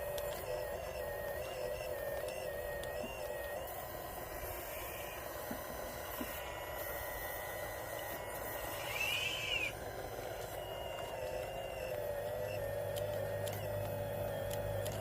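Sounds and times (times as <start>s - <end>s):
rising and falling motor whine: 0.0s - 15.0s
small electric motors whirring: 0.0s - 15.0s.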